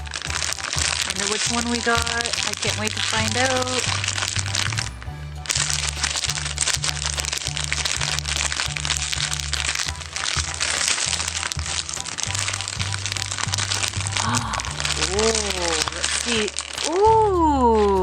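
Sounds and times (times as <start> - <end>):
background music with bass line: 0.0 - 18.0
wrapping paper crinkling: 0.0 - 18.0.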